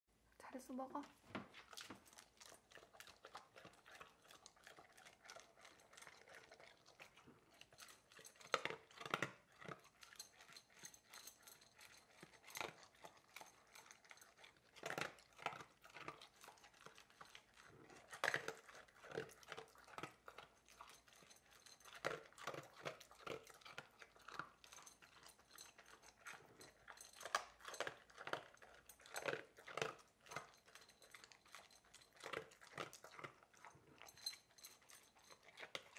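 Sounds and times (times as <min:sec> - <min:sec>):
dog crunching dry kibble: 0:01.3 - 0:35.9.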